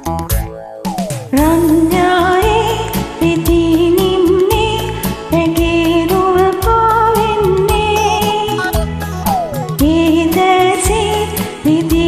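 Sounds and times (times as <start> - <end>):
karaoke backing music: 0.0 - 12.0.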